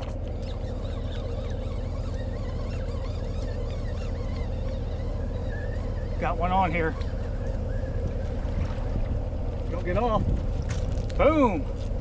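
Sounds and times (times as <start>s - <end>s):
birds chirping: 0.0s - 10.9s
low rumble: 0.0s - 12.0s.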